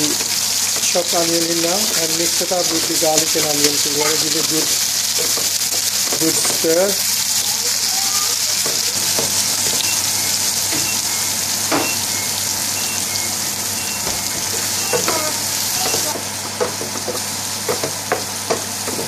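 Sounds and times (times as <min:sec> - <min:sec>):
onion and garlic sizzling in pan: 0:00.0 - 0:19.0.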